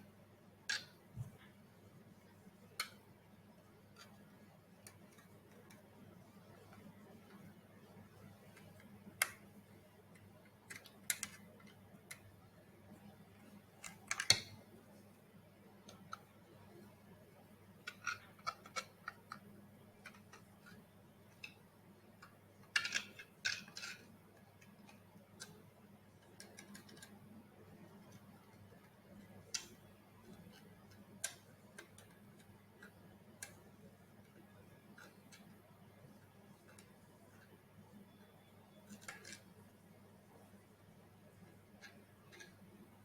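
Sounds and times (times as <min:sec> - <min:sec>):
small parts clicking and tapping: 0:00.6 - 0:01.6, 0:02.3 - 0:03.1, 0:03.8 - 0:12.4, 0:13.0 - 0:14.8, 0:15.7 - 0:43.0.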